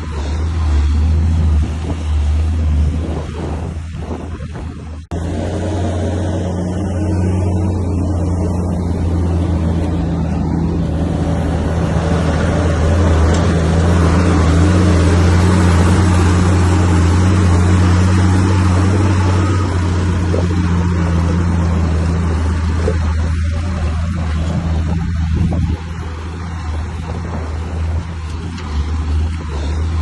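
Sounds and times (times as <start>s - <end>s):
bulldozer diesel engine humming: 0.0s - 30.0s.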